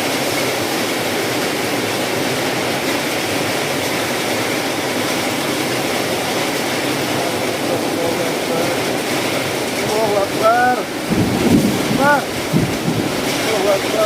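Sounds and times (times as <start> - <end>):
heavy rain: 0.0 - 14.0
strong wind: 0.0 - 14.0.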